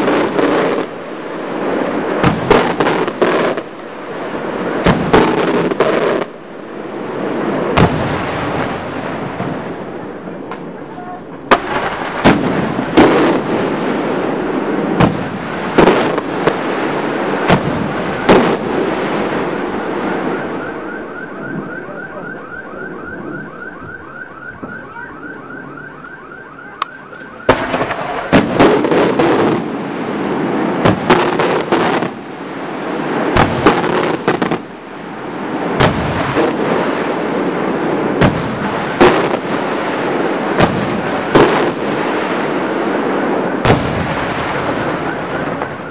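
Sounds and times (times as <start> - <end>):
fireworks bangs: 0.0 - 45.9
fireworks crackling: 0.0 - 45.9.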